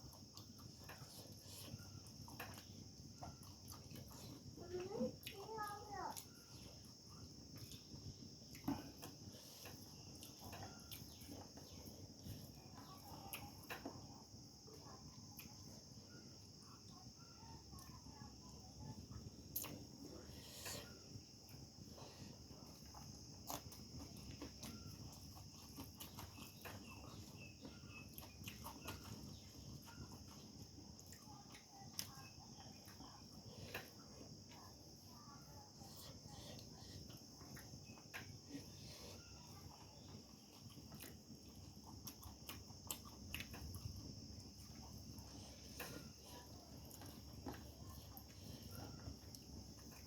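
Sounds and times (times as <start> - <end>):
crickets chirring: 0.0 - 50.0.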